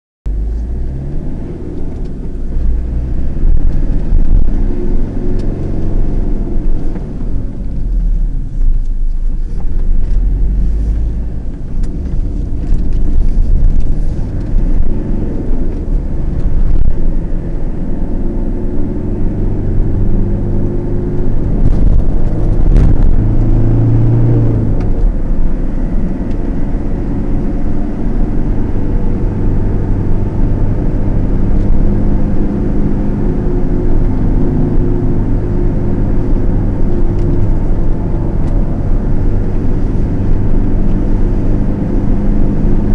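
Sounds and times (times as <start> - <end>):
car engine: 0.3 - 42.9
road rumble: 0.3 - 42.9.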